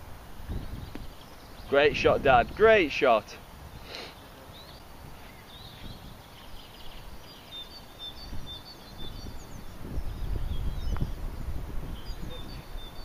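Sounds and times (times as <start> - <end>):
small birds chirping and whistling: 0.4 - 13.0.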